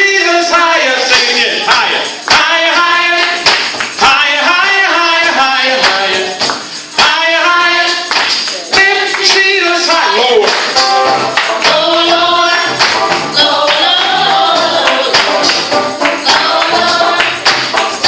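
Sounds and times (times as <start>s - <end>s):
youth choir singing: 0.0s - 8.1s, 8.7s - 10.4s, 11.2s - 18.0s
sharp percussive hits: 1.1s - 18.0s.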